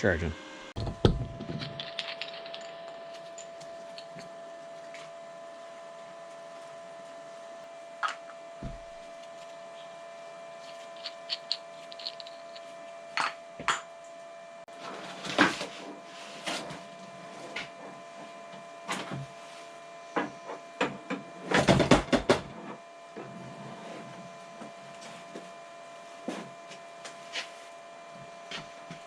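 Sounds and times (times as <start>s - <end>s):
cooling fan hum: 0.0s - 29.0s.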